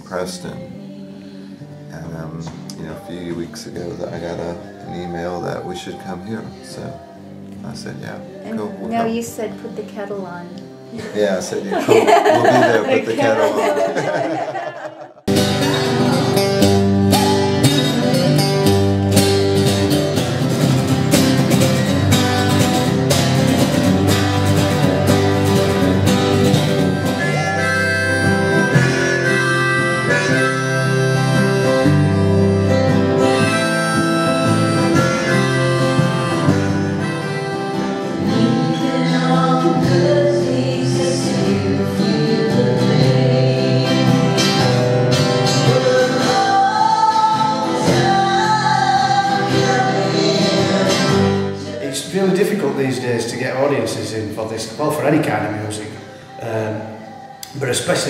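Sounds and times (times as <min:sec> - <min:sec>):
acoustic guitar strumming: 0:01.6 - 0:58.0
harmonica playing: 0:02.9 - 0:14.4, 0:15.3 - 0:53.0, 0:54.7 - 0:58.0.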